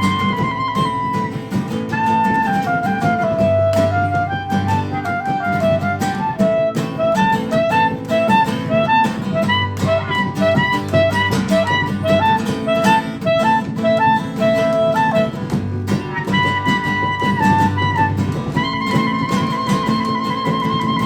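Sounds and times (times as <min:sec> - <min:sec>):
clarinet melody: 0:00.0 - 0:21.0
guitars: 0:00.0 - 0:21.0
percussion: 0:00.0 - 0:21.0.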